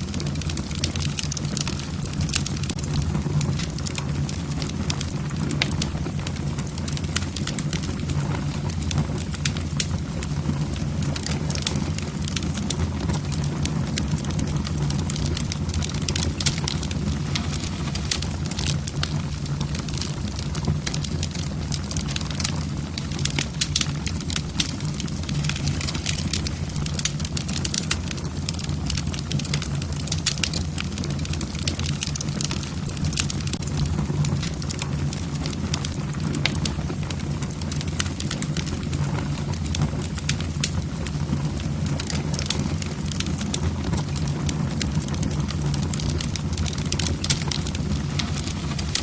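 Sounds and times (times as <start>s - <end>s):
logs crackling in fireplace: 0.0s - 49.0s.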